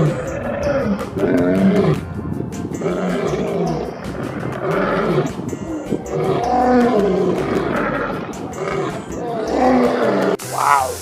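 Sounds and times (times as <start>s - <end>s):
animal growling roars: 0.0s - 2.1s, 2.7s - 10.9s
background music: 0.0s - 11.0s.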